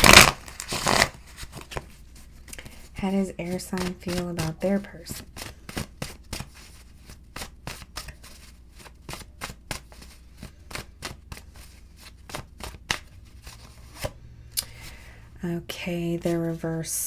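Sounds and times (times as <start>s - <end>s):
cards being shuffled: 0.0s - 15.2s.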